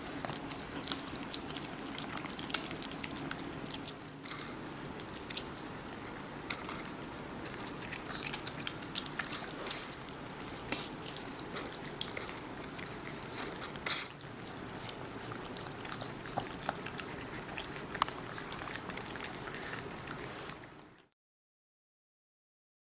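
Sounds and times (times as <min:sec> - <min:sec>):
animals chewing watermelon: 0:00.0 - 0:21.1
steady low hum: 0:00.0 - 0:21.1.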